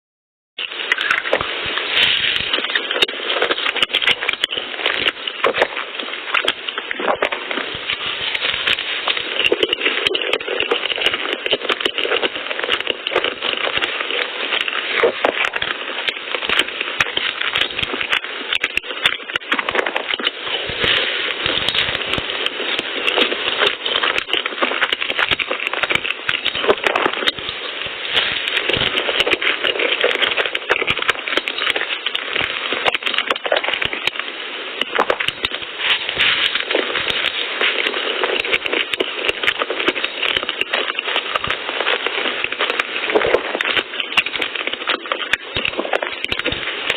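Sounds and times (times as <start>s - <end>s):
chewing and mouth noises: 0.6s - 34.2s, 34.8s - 46.9s
fine crackling clicks: 0.6s - 46.9s.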